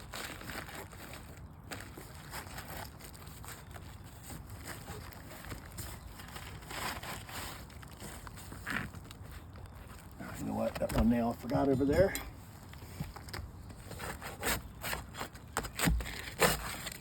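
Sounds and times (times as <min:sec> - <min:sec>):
hands rustling shingles and tarp: 0:00.0 - 0:17.0.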